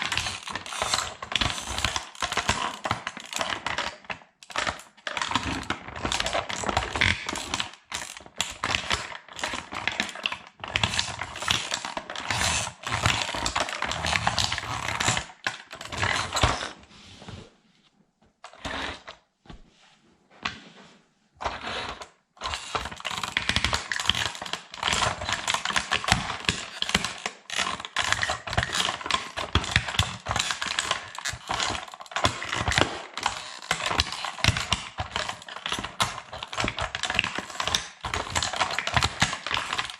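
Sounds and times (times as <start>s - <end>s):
plastic toy crackling underfoot: 0.0s - 17.6s, 21.4s - 39.9s.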